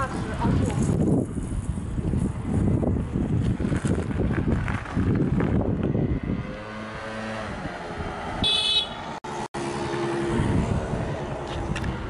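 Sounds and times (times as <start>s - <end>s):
wind buffeting microphone: 0.0s - 8.5s, 10.0s - 12.0s
passing vehicle engine humming: 0.0s - 12.0s.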